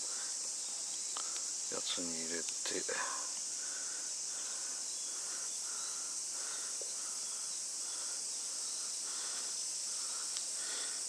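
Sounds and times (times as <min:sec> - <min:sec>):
high-pitched insect chorus: 0:00.0 - 0:11.0
short lower insect call: 0:00.0 - 0:11.0.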